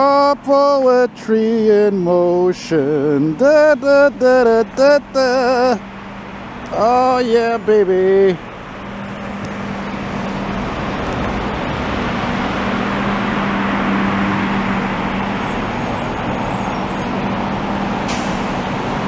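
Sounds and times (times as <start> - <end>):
diesel truck engines running: 0.0 - 19.0.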